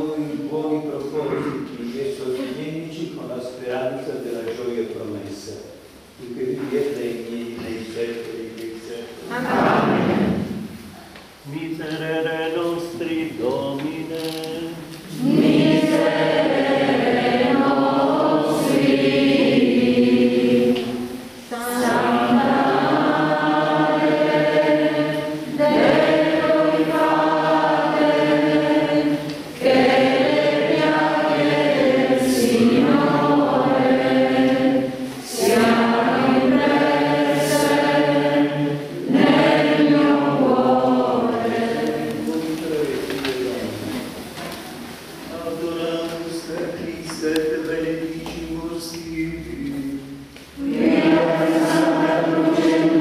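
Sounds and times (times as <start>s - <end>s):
group singing a hymn: 6.3s - 53.0s.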